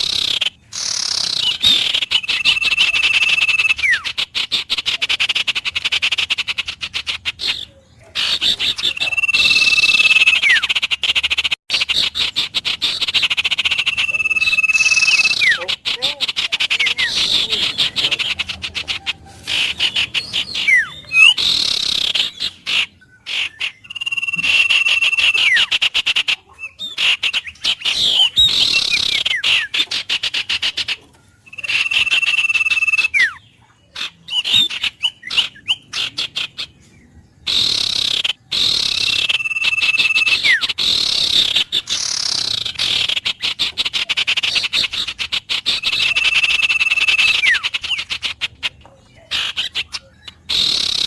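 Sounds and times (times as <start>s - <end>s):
fast rattling bird trills: 0.0s - 51.0s.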